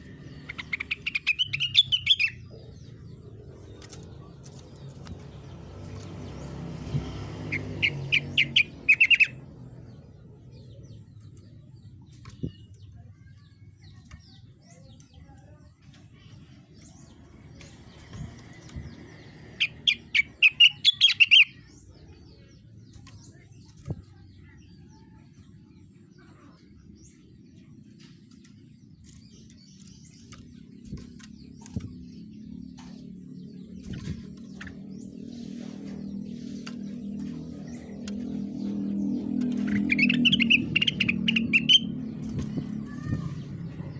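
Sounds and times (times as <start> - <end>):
songbird singing rapid notes: 0.0 - 43.9.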